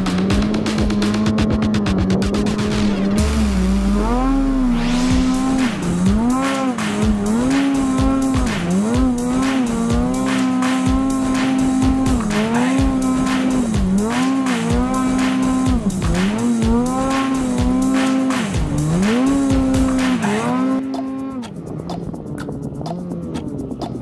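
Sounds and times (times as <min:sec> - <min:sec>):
snowmobile engine revving: 0:00.0 - 0:21.5
background music with steady beat: 0:00.0 - 0:24.0.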